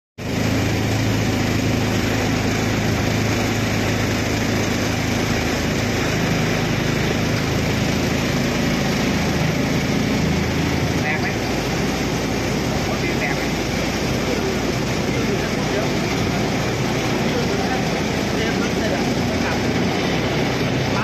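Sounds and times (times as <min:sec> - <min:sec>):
boat engine droning: 0:00.2 - 0:21.0.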